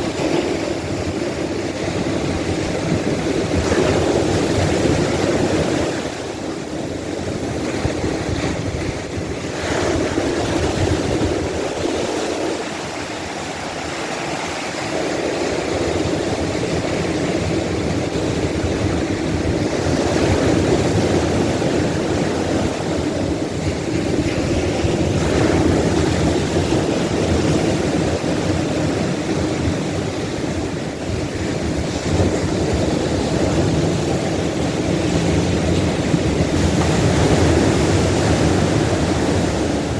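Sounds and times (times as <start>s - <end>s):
waves breaking on beach: 0.0s - 39.9s
wind on microphone: 0.0s - 39.9s.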